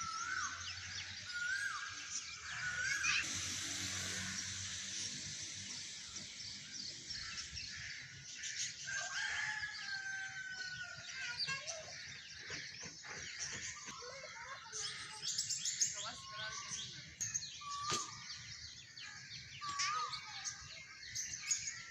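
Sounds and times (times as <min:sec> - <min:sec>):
birds chirping and calling: 0:00.0 - 0:21.9.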